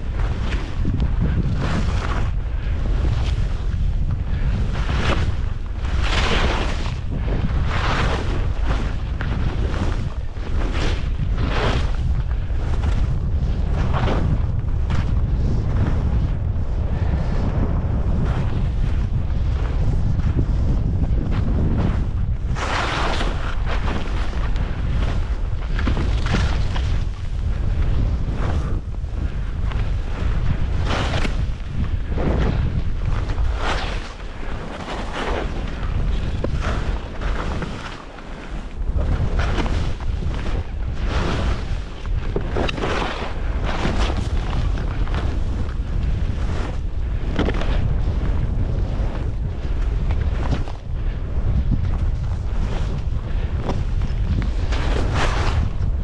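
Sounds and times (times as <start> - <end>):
skis scraping through snow: 0.0 - 56.0
wind buffeting microphone: 0.0 - 56.0.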